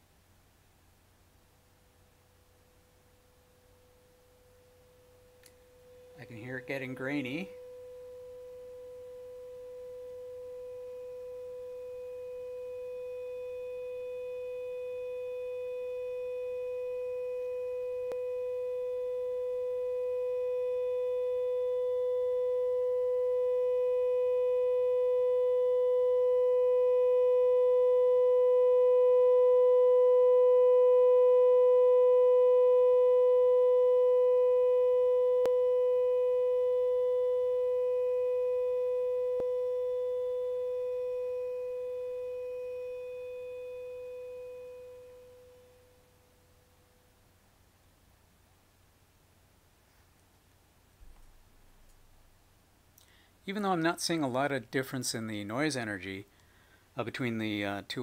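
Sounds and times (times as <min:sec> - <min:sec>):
faint grainy noise: 0:00.0 - 0:26.2, 0:34.8 - 0:58.0
steady sine test tone: 0:00.0 - 0:58.0.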